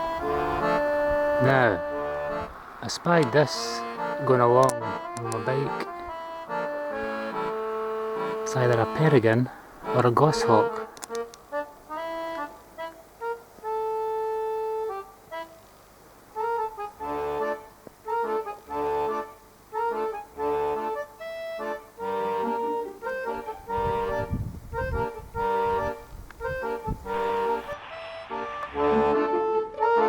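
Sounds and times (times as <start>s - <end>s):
melody over low bass chords: 0.0s - 15.1s, 16.4s - 30.0s.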